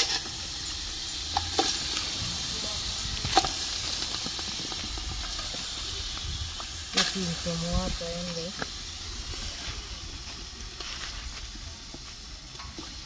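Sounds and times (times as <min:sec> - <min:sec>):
pot sizzling: 0:00.0 - 0:13.0.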